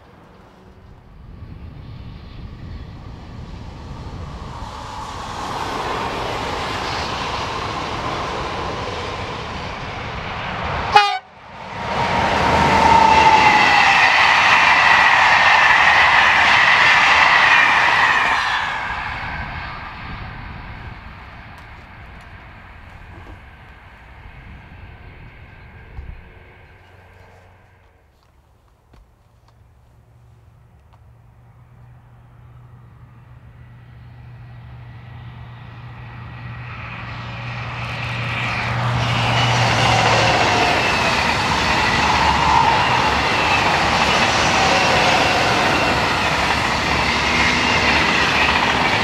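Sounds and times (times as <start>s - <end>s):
train passing: 0.0s - 49.0s.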